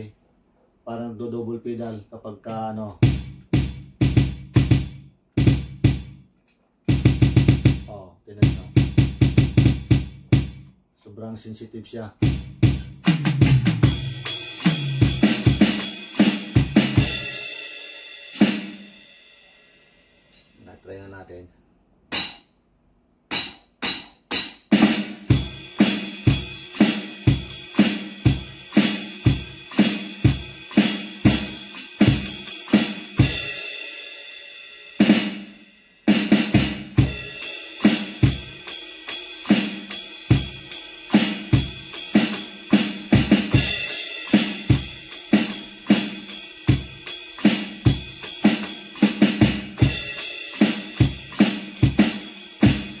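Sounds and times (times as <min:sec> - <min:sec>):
electronic drum kit groove: 0:02.9 - 0:10.7, 0:12.2 - 0:19.0, 0:22.1 - 0:22.6, 0:23.3 - 0:34.0, 0:35.0 - 0:53.0.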